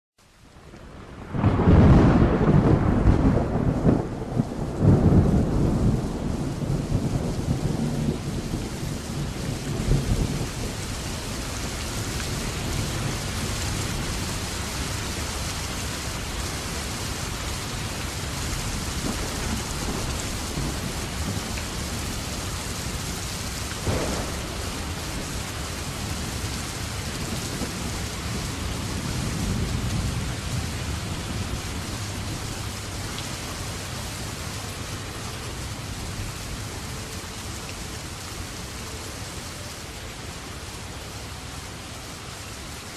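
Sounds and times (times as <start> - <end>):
rain pattering: 0.2 - 42.9.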